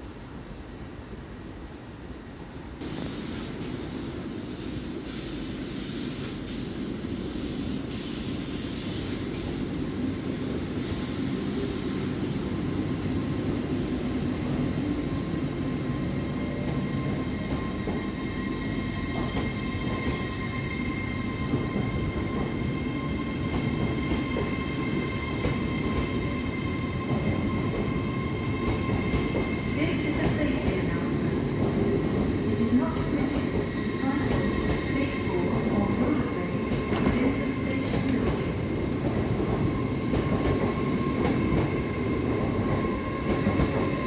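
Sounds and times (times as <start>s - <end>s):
train rumble: 2.8s - 44.0s.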